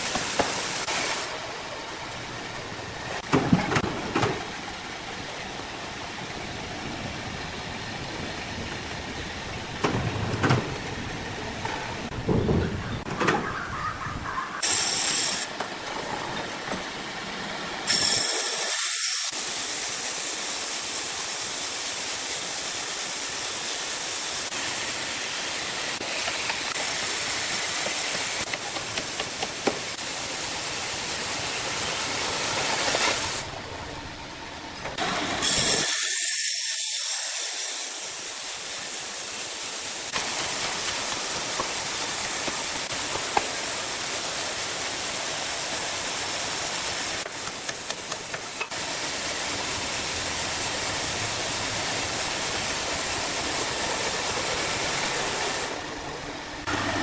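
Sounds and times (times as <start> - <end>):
sawmill machinery hissing: 0.0 - 3.3, 14.5 - 57.0.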